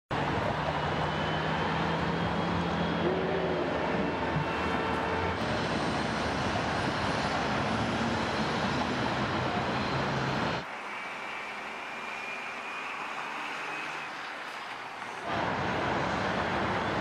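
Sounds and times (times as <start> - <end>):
freeway traffic roar: 0.1 - 17.0
passing engines humming: 0.1 - 17.0.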